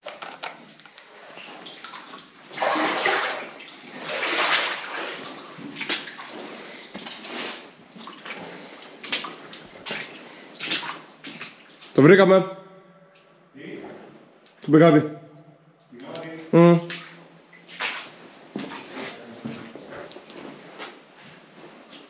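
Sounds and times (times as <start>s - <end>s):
water splashing and sloshing: 0.0s - 14.6s, 15.3s - 22.0s.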